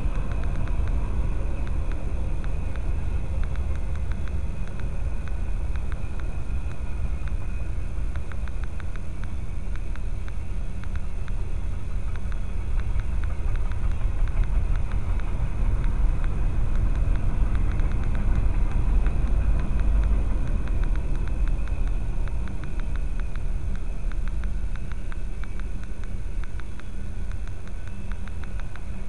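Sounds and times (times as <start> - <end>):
faint rapid ticking: 0.0 - 29.0.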